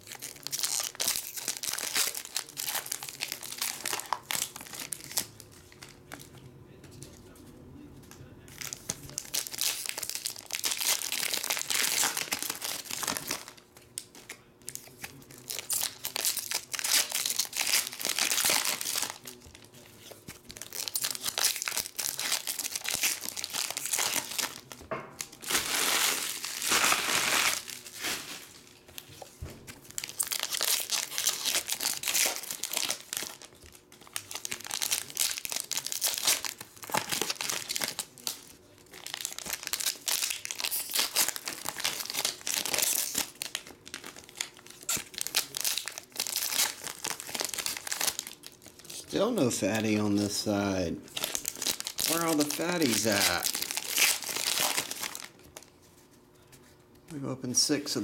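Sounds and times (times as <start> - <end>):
foil wrappers crinkling and tearing: 0.0 - 6.4, 8.2 - 55.9.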